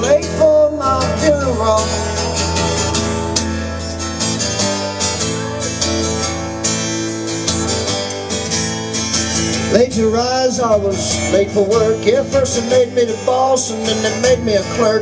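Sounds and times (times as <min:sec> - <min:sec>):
bass line: 0:00.0 - 0:15.0
strummed acoustic guitar: 0:00.0 - 0:15.0.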